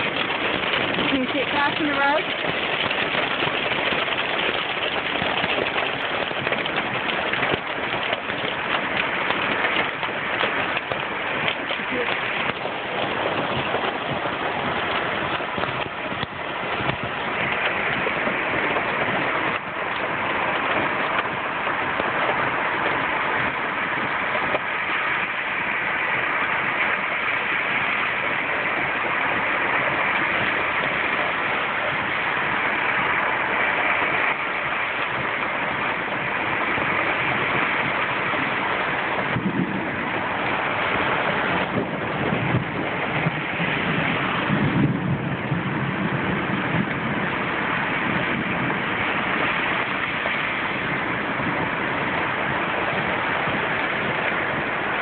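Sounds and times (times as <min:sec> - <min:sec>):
heavy rain hissing: 0:00.0 - 0:55.0
vehicle driving through water: 0:00.0 - 0:55.0.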